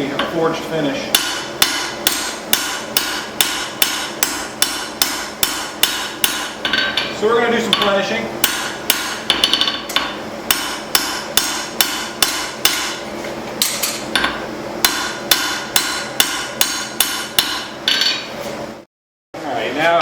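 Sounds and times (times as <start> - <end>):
hammer striking steel on anvil: 1.1 - 13.0, 13.6 - 18.3.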